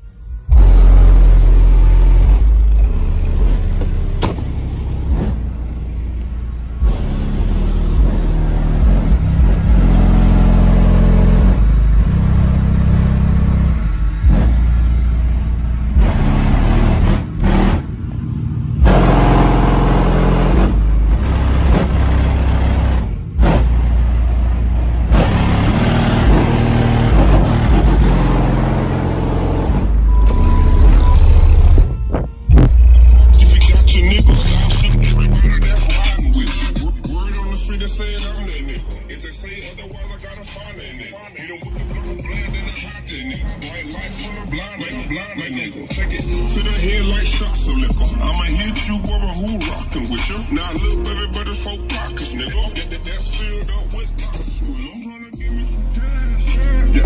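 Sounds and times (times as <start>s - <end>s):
bass-heavy music through subwoofers: 0.0s - 17.9s, 18.7s - 57.0s.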